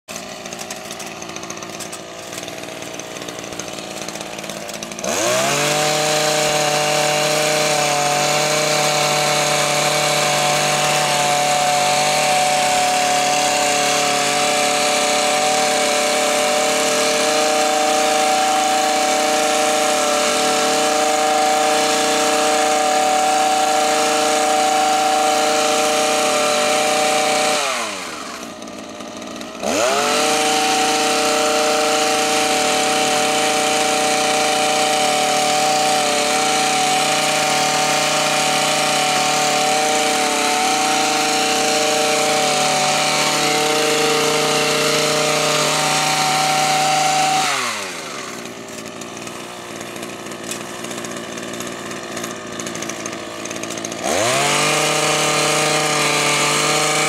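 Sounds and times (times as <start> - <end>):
hedge trimmer engine revving: 0.1 - 57.0.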